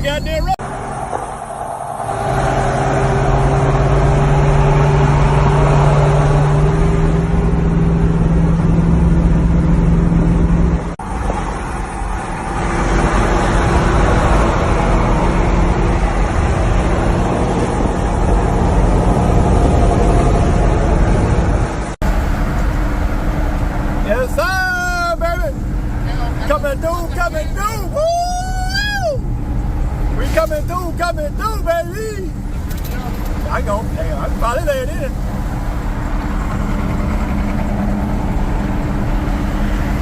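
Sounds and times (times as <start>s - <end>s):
car engine droning: 0.0s - 40.0s
road noise: 0.0s - 40.0s.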